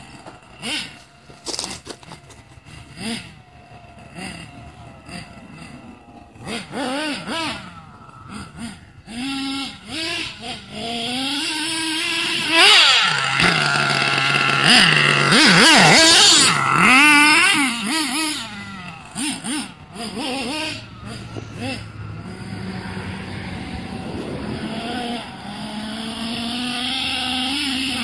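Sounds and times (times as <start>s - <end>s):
small two-stroke engine revving: 0.0s - 28.0s.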